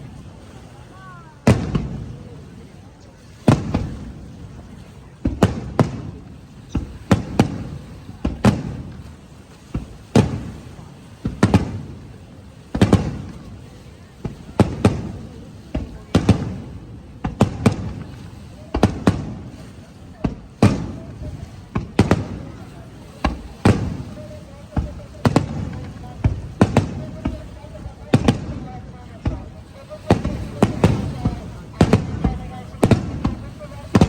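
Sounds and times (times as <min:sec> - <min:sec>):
fireworks bangs with rumble: 0:01.1 - 0:02.8, 0:03.4 - 0:34.0.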